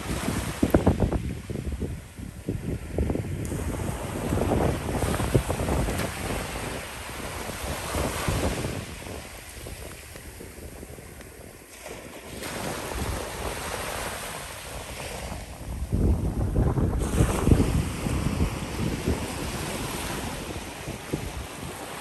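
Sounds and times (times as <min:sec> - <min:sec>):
small waves washing onto beach: 0:00.0 - 0:22.0
wind gusting on microphone: 0:00.0 - 0:22.0.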